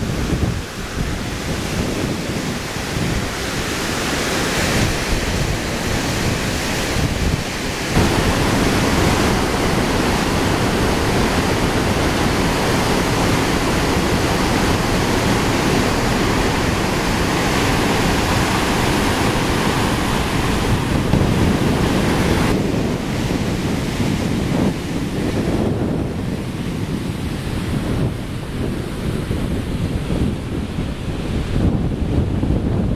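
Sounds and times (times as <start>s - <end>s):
waterfall rushing: 0.0s - 29.1s
wind buffeting microphone: 0.0s - 32.9s.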